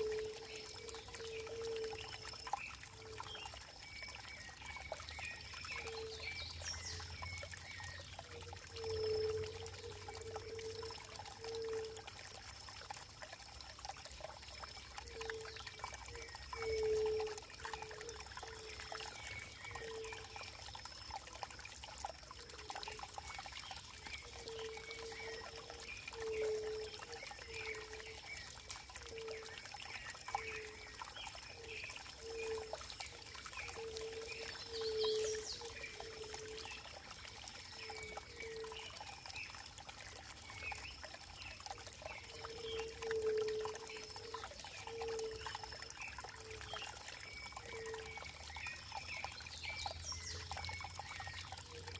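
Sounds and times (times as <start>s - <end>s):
water trickling and pouring: 0.0s - 51.9s.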